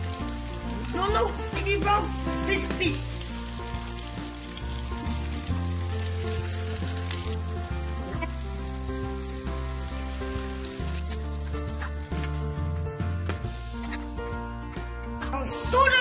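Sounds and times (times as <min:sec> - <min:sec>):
chicken sizzling in a frying pan: 0:00.0 - 0:13.2
background music with bass line: 0:00.0 - 0:16.0.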